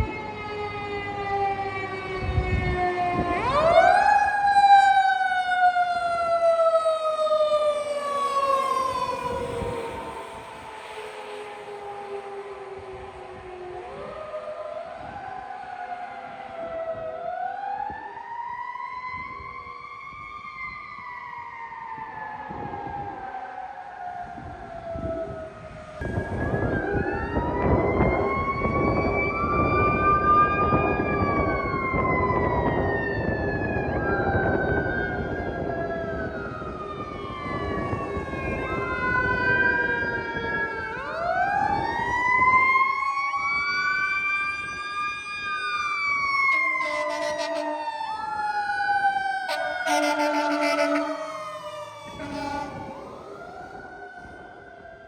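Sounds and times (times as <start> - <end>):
fire sirens wailing: 0.0 - 55.0
road noise: 0.0 - 55.0.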